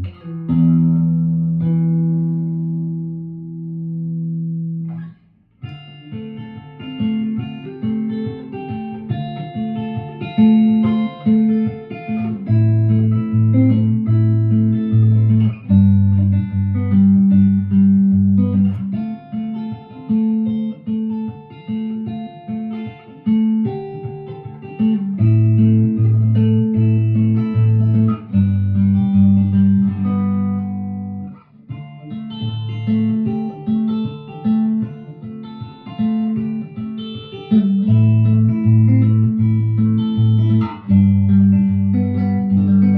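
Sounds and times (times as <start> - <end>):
electric guitar playing: 0.0 - 42.9.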